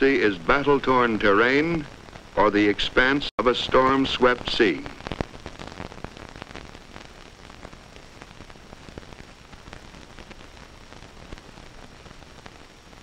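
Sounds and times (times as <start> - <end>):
faint crackles and pops: 0.0 - 13.0
film soundtrack hiss: 0.0 - 13.0.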